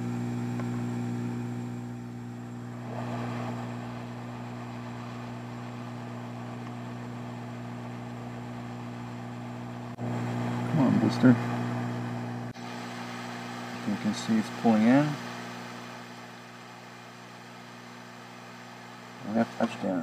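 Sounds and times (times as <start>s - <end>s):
blower motor hum: 0.0s - 20.0s.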